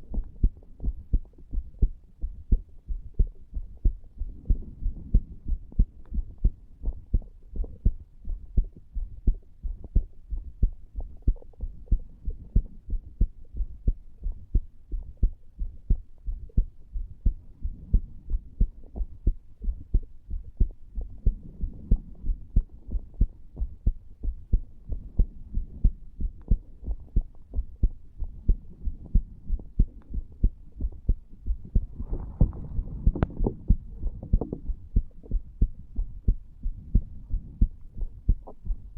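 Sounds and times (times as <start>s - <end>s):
heartbeat: 0.0s - 38.9s.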